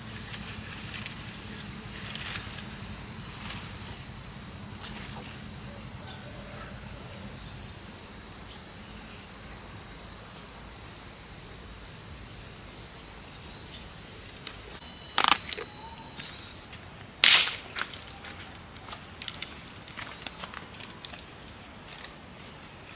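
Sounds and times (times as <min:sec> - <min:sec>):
cricket trilling: 0:00.0 - 0:22.9.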